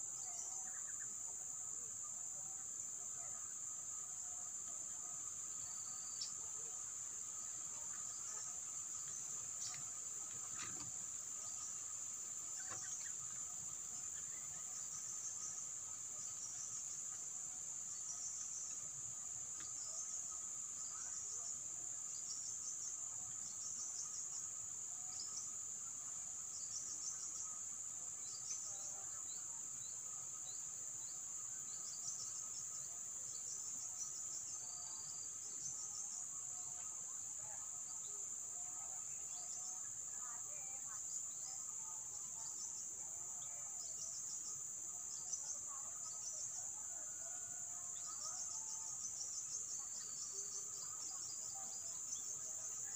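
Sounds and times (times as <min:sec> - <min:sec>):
high-pitched insects droning: 0:00.0 - 0:52.9
lower insect tone: 0:00.0 - 0:52.9.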